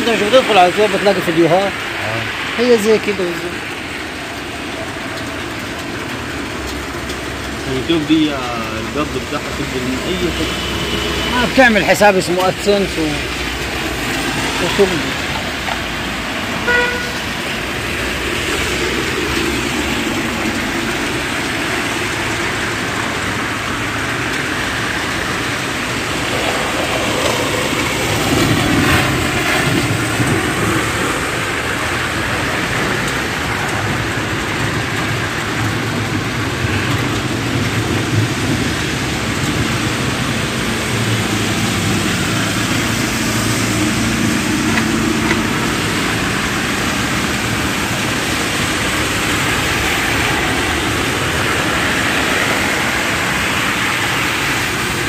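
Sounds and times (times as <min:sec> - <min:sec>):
cars driving through water: 0:00.0 - 0:55.0
steady rain: 0:00.0 - 0:55.0.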